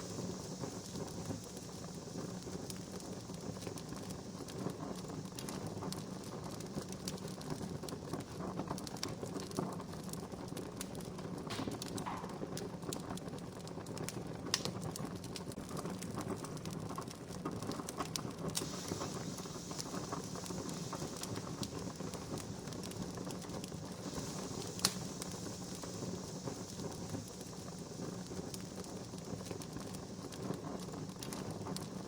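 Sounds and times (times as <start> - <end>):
fire hissing: 0.0 - 32.0
campfire pops and snaps: 0.1 - 32.0.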